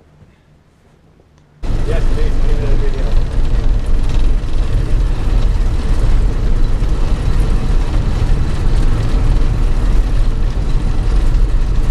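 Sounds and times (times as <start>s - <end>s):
vehicle engine rumble: 1.5s - 11.9s.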